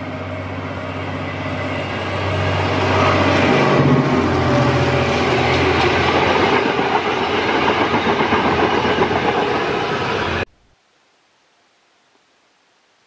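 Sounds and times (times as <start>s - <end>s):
train wheels rolling on rails: 0.0s - 10.5s.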